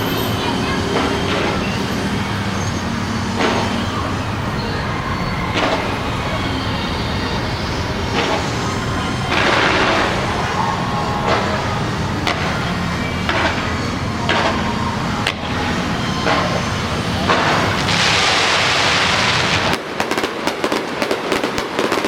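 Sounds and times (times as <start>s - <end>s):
fireworks bursting with bangs: 0.0s - 22.0s.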